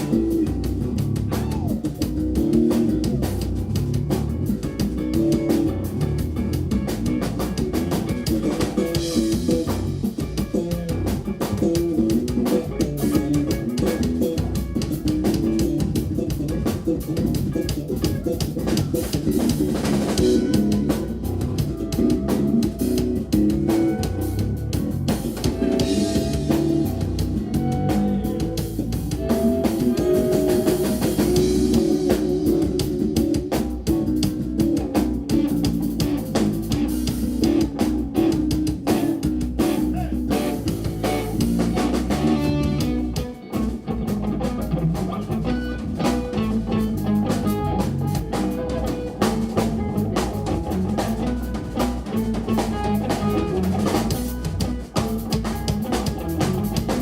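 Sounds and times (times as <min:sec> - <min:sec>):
bass guitar: 0:00.0 - 0:57.0
drum kit: 0:00.0 - 0:57.0
electric guitar: 0:00.0 - 0:57.0.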